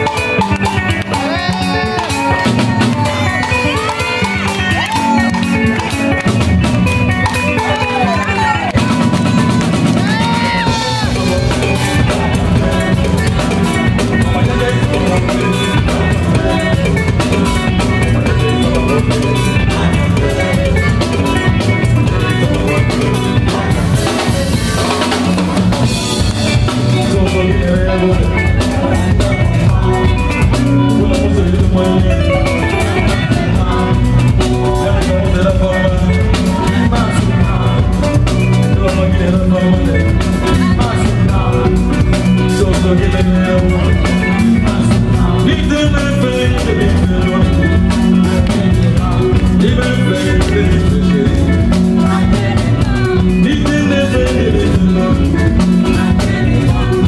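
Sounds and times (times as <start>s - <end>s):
live band music: 0.0s - 57.0s.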